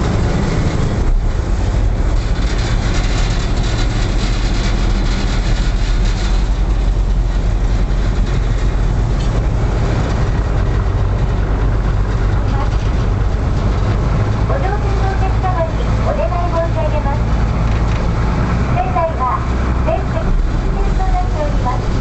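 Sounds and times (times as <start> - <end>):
ferry engine droning: 0.0 - 22.0
rushing water noise: 0.0 - 22.0.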